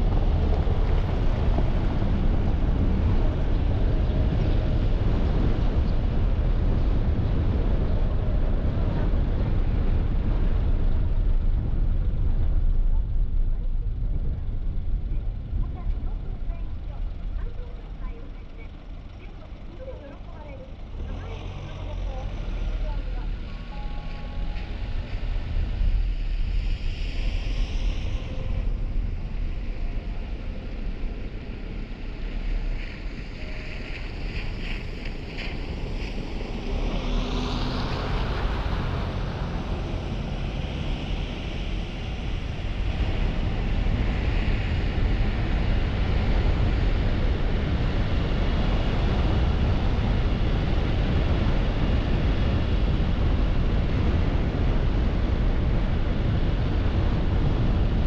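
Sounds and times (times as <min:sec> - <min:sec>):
wind on microphone: 0:00.0 - 0:19.6, 0:20.8 - 0:58.0
car engine rumble: 0:00.0 - 0:58.0
road and tyre noise: 0:00.0 - 0:58.0.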